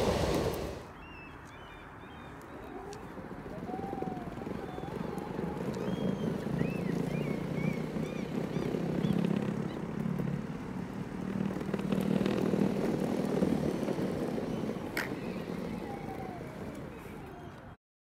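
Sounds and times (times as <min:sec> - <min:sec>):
skateboard wheels rolling on pavers: 0:00.0 - 0:00.9, 0:02.0 - 0:17.8.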